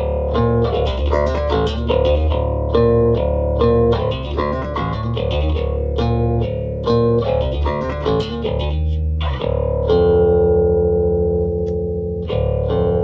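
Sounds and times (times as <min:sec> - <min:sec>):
electric bass picked notes: 0:00.0 - 0:13.0.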